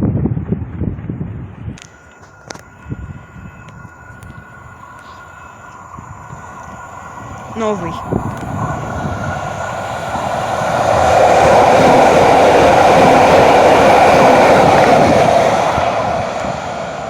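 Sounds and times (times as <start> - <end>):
vehicle rushing rumble: 0.0 - 17.0.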